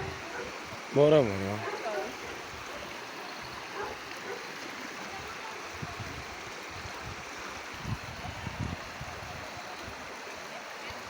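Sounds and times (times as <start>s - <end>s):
floodwater rushing along street: 0.0s - 11.0s.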